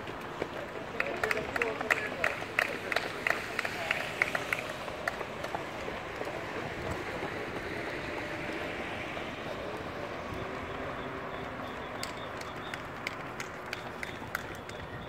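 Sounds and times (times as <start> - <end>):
outdoor street noise: 0.0 - 15.0
runners' footfalls: 0.0 - 15.0.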